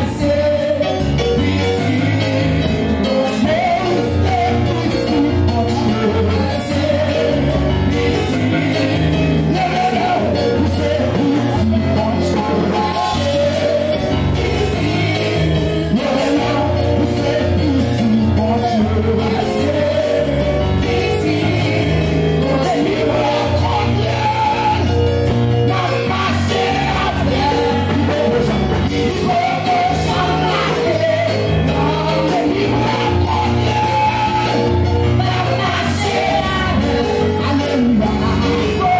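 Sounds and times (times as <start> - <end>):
amplified worship music: 0.0 - 38.9
heavy bass line: 0.0 - 38.9
voices singing: 0.0 - 38.9.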